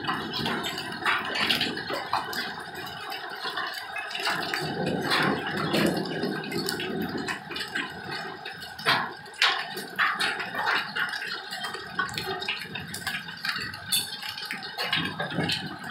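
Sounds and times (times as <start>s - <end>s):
hailstones clicking on concrete: 0.0s - 15.9s.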